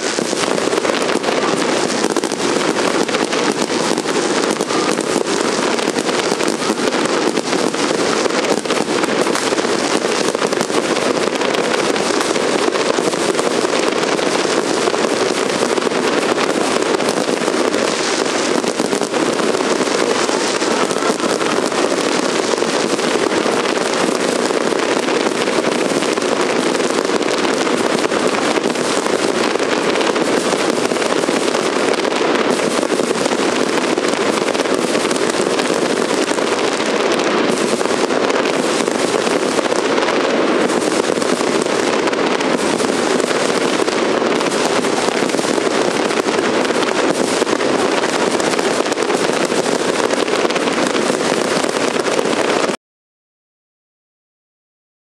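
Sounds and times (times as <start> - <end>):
fireworks crackling: 0.0 - 52.8.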